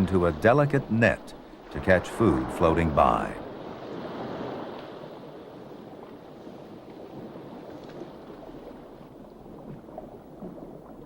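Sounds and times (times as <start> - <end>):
sea noise: 0.0 - 11.0.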